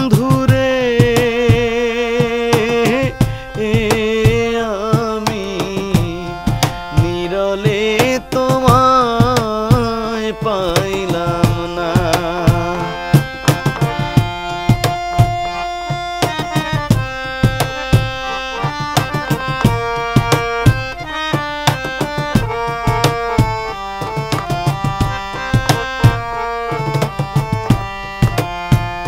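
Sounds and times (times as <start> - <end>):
cajon beat: 0.0 - 29.0
harmonium melody: 0.0 - 29.0.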